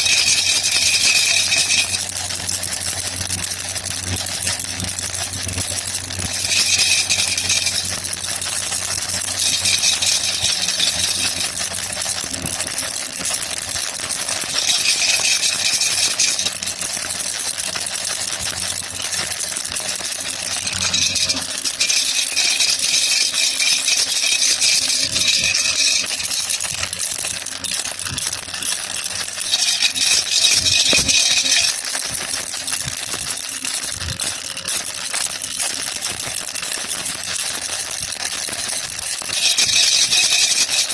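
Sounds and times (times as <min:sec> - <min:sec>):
baby rattle beads clattering: 0:00.0 - 0:40.9.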